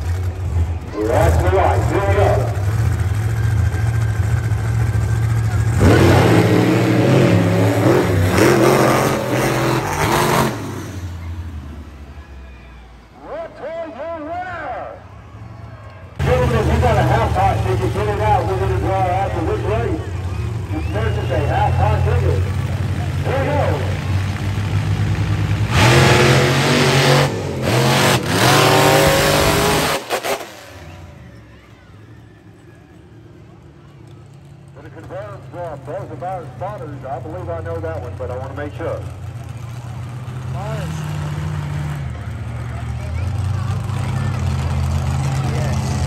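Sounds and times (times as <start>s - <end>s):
truck engine revving: 0.0s - 12.2s, 16.2s - 31.5s, 34.1s - 46.0s.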